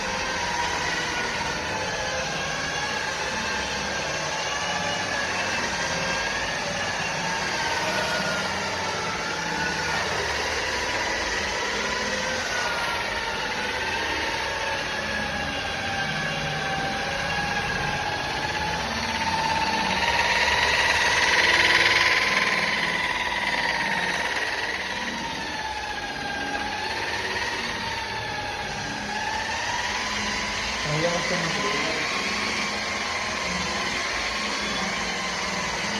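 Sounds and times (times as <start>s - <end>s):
rotary polisher motor whine: 0.0s - 35.9s.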